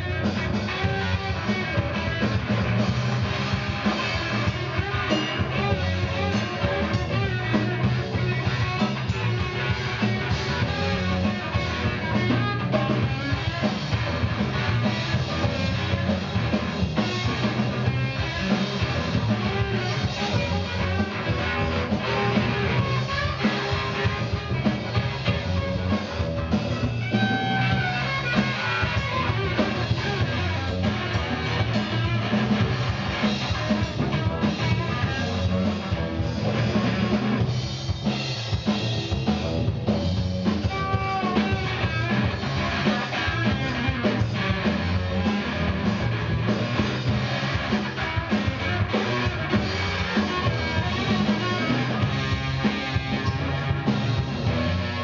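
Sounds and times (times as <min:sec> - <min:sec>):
drum kit: 0:00.0 - 0:55.0
electric guitar: 0:00.0 - 0:55.0.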